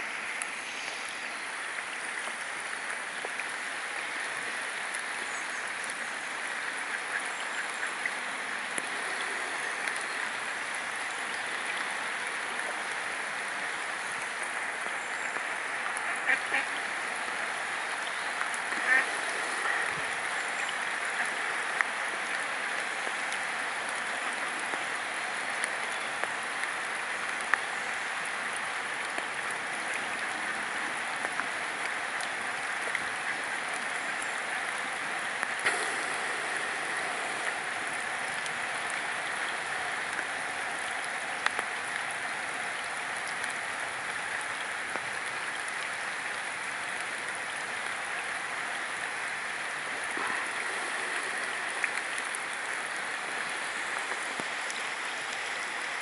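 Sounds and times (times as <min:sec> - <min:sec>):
rain falling on pond: 0:00.0 - 0:56.0.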